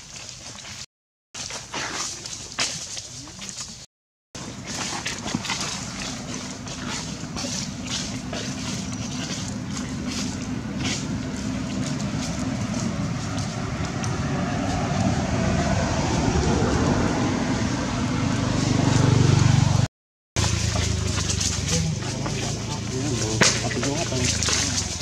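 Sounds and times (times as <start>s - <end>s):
vehicle engine rumbling: 4.4s - 25.0s.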